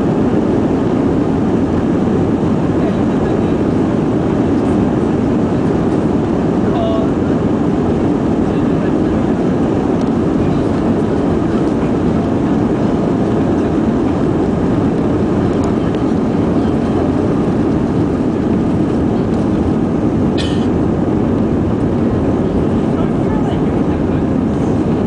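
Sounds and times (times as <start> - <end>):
jet engines roaring on takeoff: 0.0 - 25.0
runway rumble: 0.0 - 25.0.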